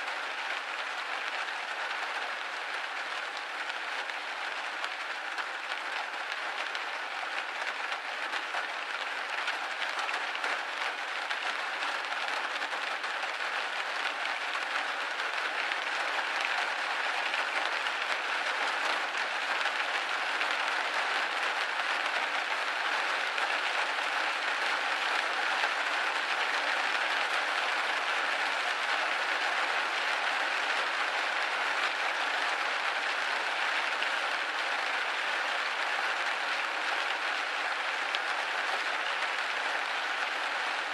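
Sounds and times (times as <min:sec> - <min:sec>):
rain hitting a window: 0:00.0 - 0:40.9.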